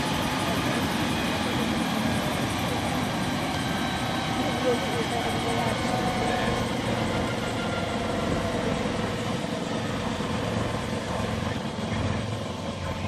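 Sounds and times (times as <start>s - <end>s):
helicopter idling: 0.0s - 13.0s.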